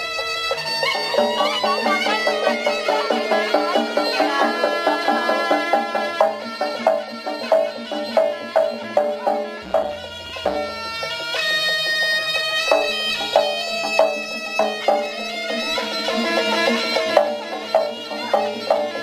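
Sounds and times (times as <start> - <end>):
drum and percussion beats: 0.0 - 19.0
reedy shawm melody: 0.0 - 19.0.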